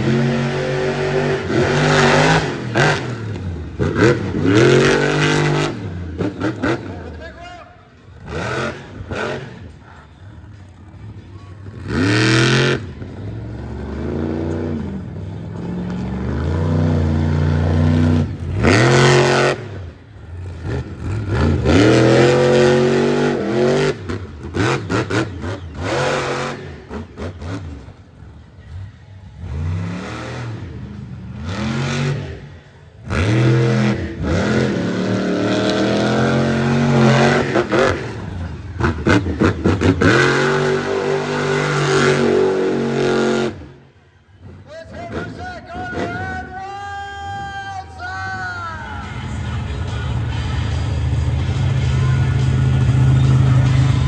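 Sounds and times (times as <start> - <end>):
truck engine revving: 0.0 - 46.6, 48.6 - 54.0.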